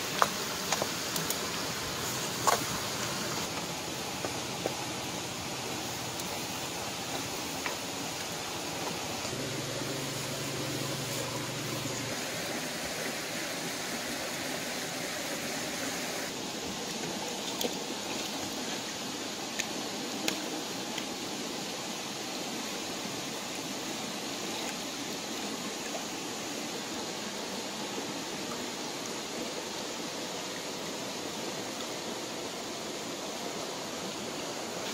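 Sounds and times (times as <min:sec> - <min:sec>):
shallow rocky stream rushing: 0:00.0 - 0:34.9.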